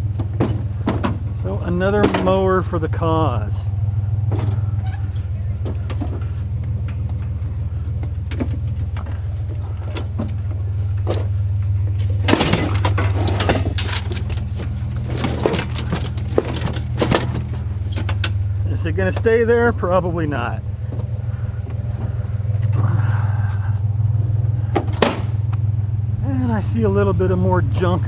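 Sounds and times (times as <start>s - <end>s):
rattles and knocks: 0.0s - 2.7s, 4.1s - 19.8s, 20.6s - 22.8s, 23.5s - 25.8s
truck engine and road hum: 0.0s - 28.0s.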